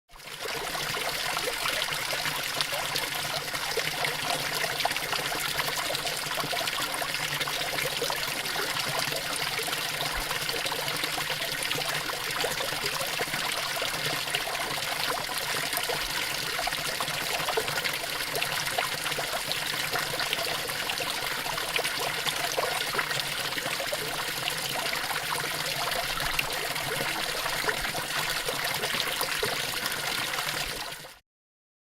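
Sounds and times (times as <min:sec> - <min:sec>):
water fountain splashing: 0:00.4 - 0:31.0.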